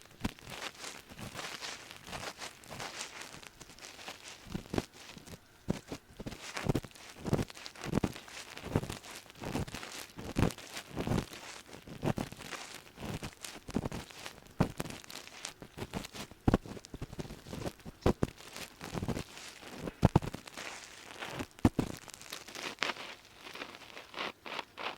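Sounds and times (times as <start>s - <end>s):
ear pick scraping microphone: 0.0s - 24.9s.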